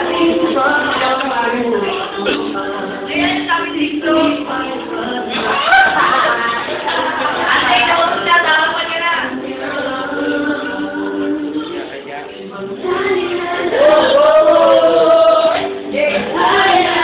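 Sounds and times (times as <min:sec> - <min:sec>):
person singing with music: 0:00.0 - 0:17.0.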